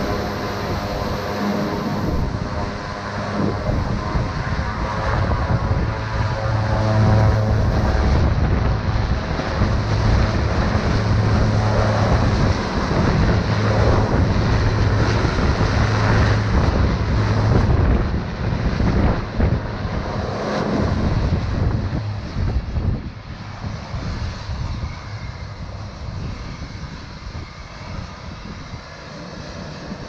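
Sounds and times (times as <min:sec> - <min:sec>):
propeller plane engines running: 0:00.0 - 0:30.0.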